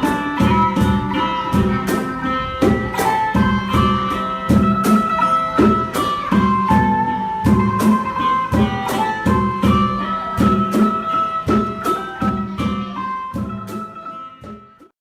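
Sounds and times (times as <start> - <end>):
instrumental background music: 0.0 - 14.9.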